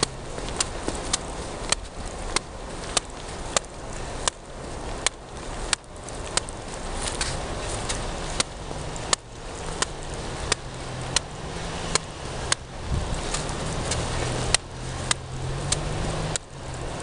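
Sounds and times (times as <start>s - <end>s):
low engine-like hum: 0.0s - 17.0s
steady rushing noise: 0.0s - 17.0s.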